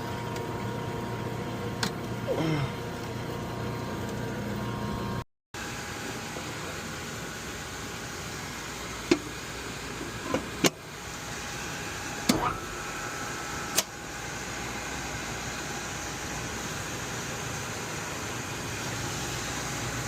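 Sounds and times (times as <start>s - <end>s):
faint hum: 0.0s - 16.8s.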